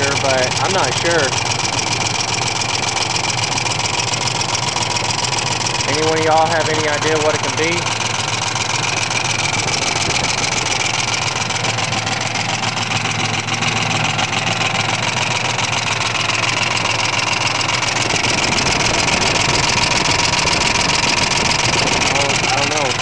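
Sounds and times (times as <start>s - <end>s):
engine idling: 0.0s - 23.0s
engine tapping rattle: 0.0s - 23.0s.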